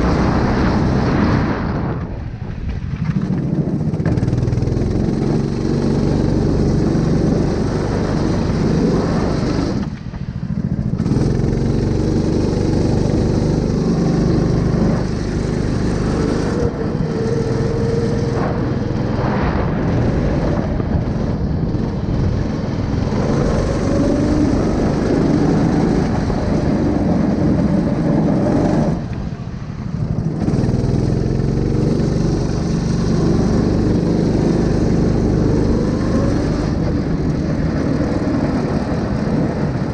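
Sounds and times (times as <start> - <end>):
small engine running: 2.7 - 39.9.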